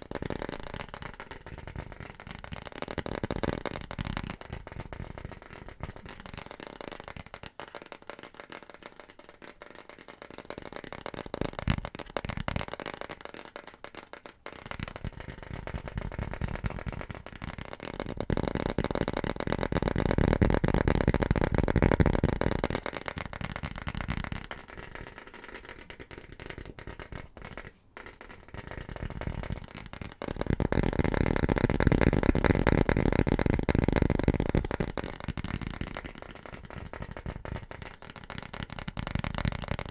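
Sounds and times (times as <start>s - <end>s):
fast tapping on hard objects: 0.0s - 39.9s.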